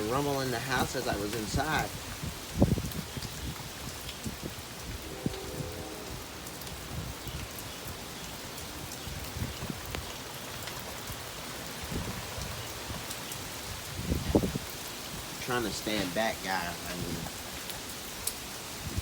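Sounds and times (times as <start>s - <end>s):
wind buffeting microphone: 0.0s - 17.4s, 18.7s - 19.0s
steady rain hiss: 0.0s - 19.0s.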